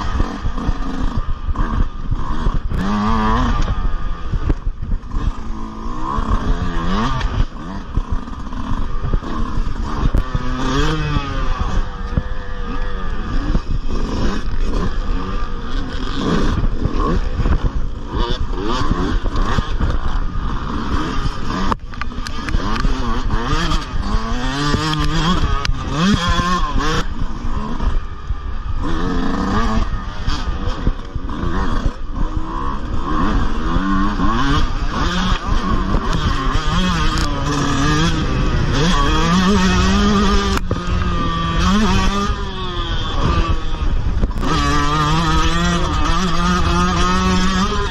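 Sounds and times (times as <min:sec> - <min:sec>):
dirt bike engine racing: 0:00.0 - 0:47.9.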